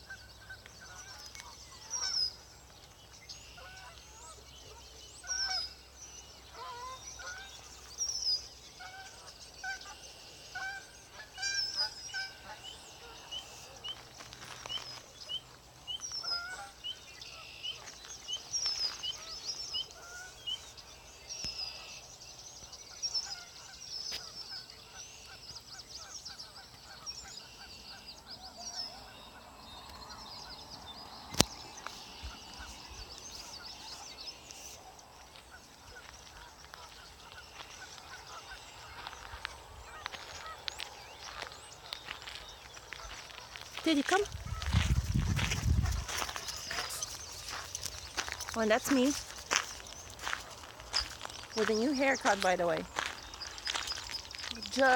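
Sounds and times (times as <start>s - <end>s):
wild birds calling: 0.0s - 54.9s.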